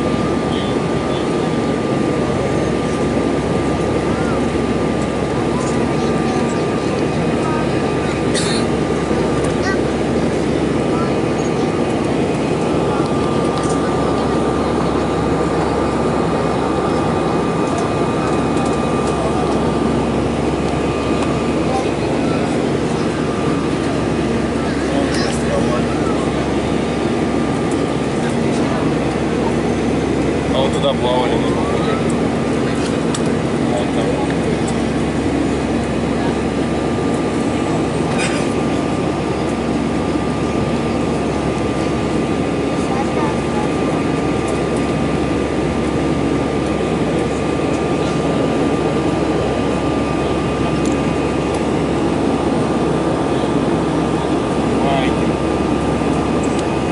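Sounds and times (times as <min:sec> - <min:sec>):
jet engine cabin roar: 0:00.0 - 0:56.9
steady hum: 0:00.0 - 0:56.9
thin steady whine: 0:00.0 - 0:56.9.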